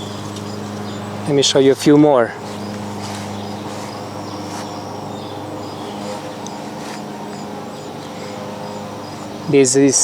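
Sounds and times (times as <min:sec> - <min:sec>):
insects chirping: 0:00.0 - 0:10.0
low machine hum: 0:00.0 - 0:10.0.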